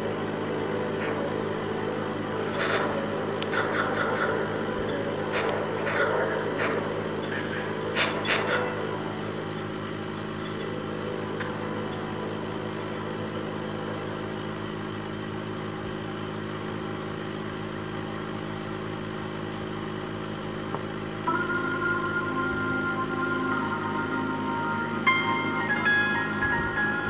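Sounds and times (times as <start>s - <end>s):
aquarium air pump humming: 0.0s - 27.0s.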